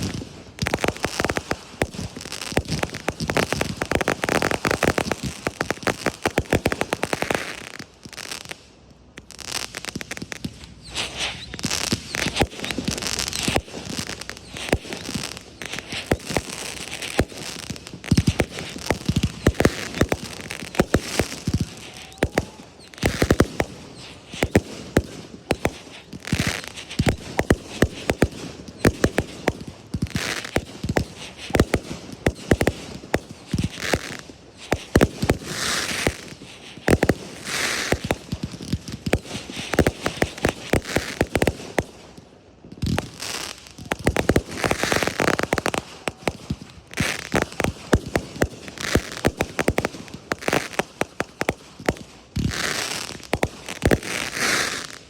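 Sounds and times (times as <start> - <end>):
fireworks bangs and pops: 0.0 - 55.0
fireworks crackling: 0.0 - 55.0.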